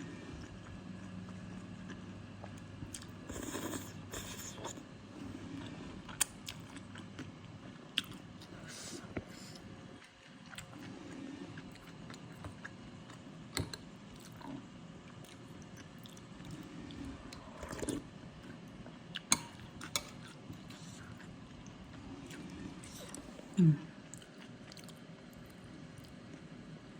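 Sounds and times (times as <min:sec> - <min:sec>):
chewing noodle soup: 0:00.1 - 0:26.6.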